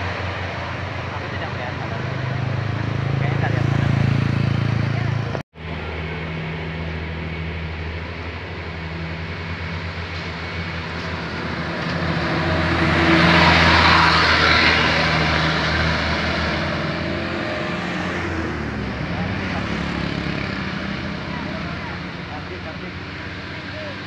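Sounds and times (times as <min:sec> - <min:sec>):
bus diesel engine humming: 0:00.0 - 0:24.0
passing vehicle rush: 0:00.0 - 0:24.0.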